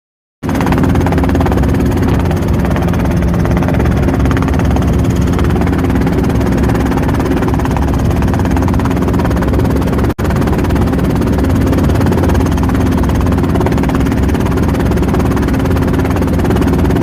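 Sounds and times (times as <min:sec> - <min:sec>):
helicopter engine and rotor drone: 0:00.4 - 0:17.0.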